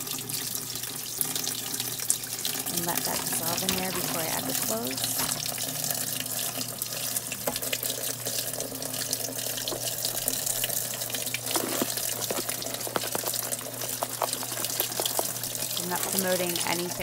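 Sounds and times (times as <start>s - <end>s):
water running into washing machine: 0.0s - 17.0s.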